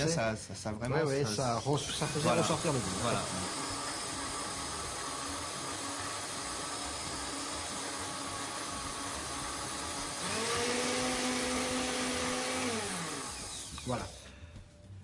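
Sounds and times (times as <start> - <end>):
blender whirring: 1.6 - 14.2.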